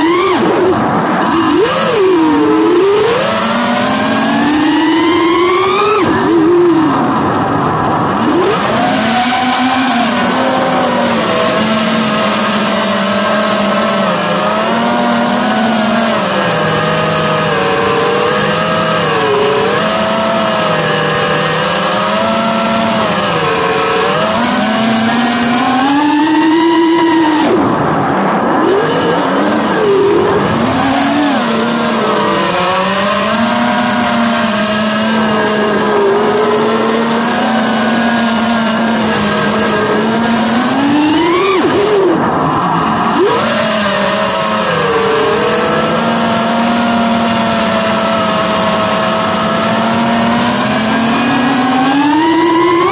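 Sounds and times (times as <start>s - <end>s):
drone motors whining: 0.0s - 52.9s.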